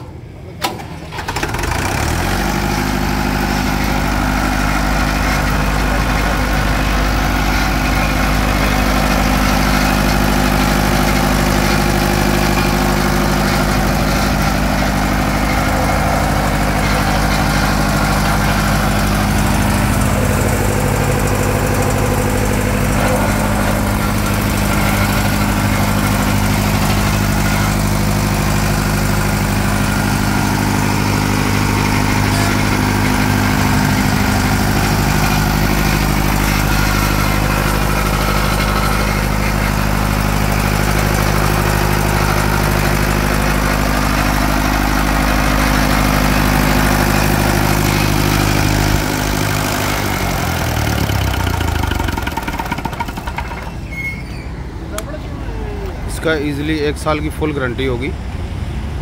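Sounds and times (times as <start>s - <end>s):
diesel generator engine running: 0.0s - 59.0s.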